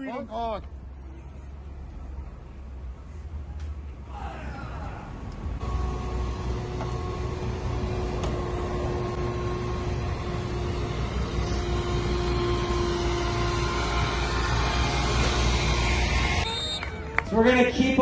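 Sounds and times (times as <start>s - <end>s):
low vehicle rumble: 0.4s - 17.4s.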